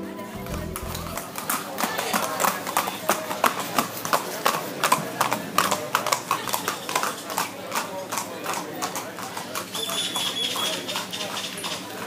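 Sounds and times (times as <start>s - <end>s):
horse hooves on pavement: 0.4s - 12.0s.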